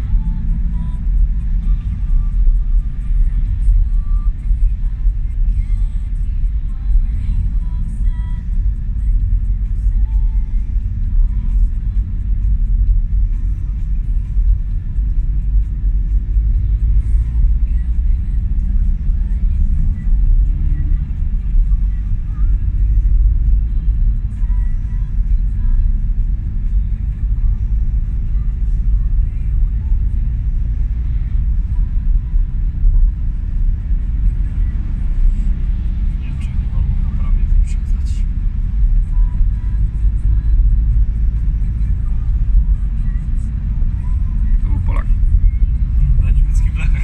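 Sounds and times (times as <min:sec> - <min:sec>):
faint music: 0:00.0 - 0:47.0
truck engine rumble: 0:00.0 - 0:47.0.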